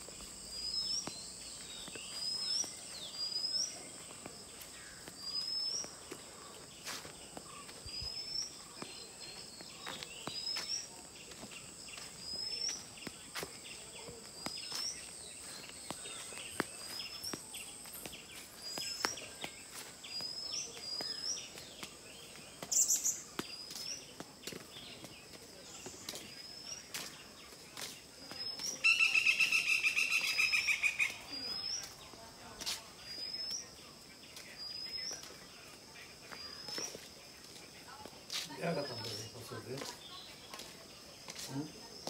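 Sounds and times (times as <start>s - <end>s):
bird chirping: 0.0s - 42.0s.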